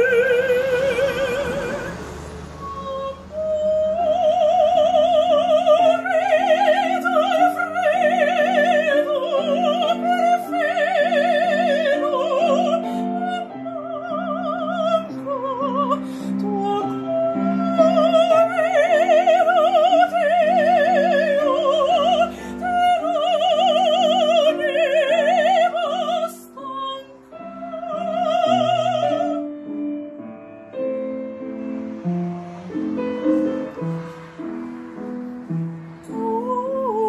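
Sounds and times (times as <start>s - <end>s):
soprano operatic singing: 0.0s - 30.8s, 36.0s - 37.0s
piano accompaniment: 0.0s - 37.0s.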